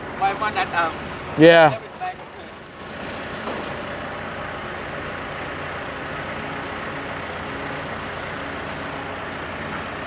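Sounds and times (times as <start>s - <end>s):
lift engine droning: 0.0s - 10.0s.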